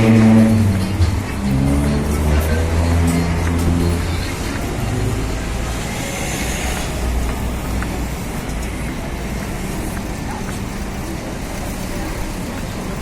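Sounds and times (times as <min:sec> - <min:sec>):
passing cars rumble: 0:00.0 - 0:13.0.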